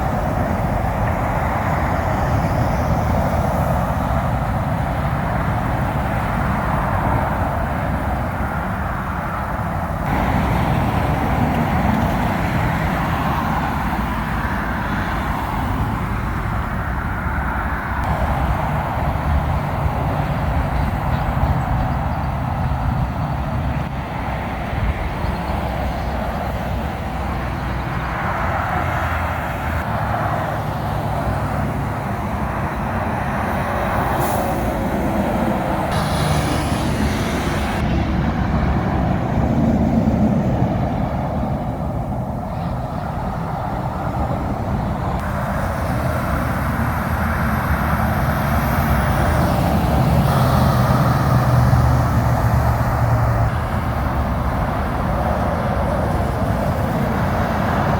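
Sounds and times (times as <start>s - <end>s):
low diesel engine drone: 0.0s - 57.9s
tyres hissing on wet road: 0.0s - 57.9s.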